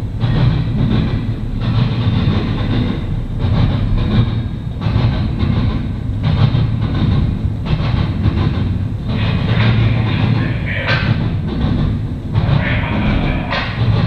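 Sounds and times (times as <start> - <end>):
train wheels rumbling on rail: 0.0 - 14.0
wheel trucks clattering: 0.0 - 14.0.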